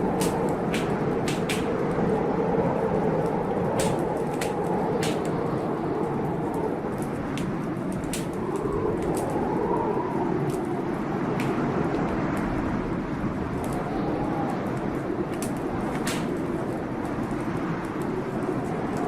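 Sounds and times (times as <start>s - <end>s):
blizzard wind howling: 0.0s - 19.0s
wood fire crackling: 0.0s - 19.0s.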